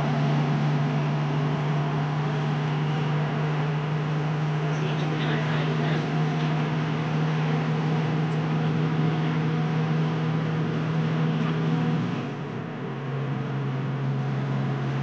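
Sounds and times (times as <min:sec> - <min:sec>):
car engine drone: 0:00.0 - 0:15.0
tyre and road noise: 0:00.0 - 0:15.0.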